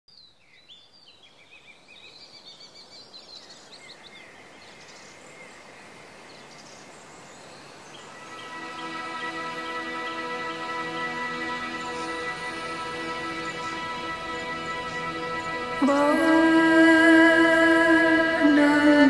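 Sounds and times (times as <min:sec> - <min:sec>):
birds chirping: 0:00.1 - 0:19.0
steady background hiss: 0:00.2 - 0:19.0.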